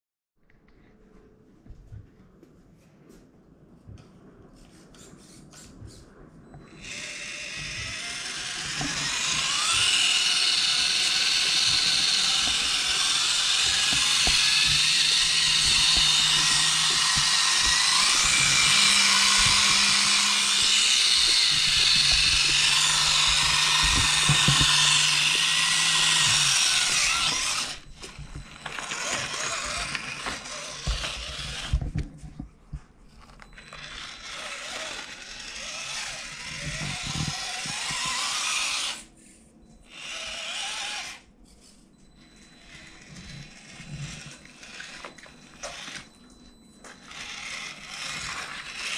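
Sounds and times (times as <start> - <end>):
electric motor and drivetrain whining: 6.6 - 32.1, 33.2 - 39.1, 39.8 - 41.3, 42.0 - 48.9.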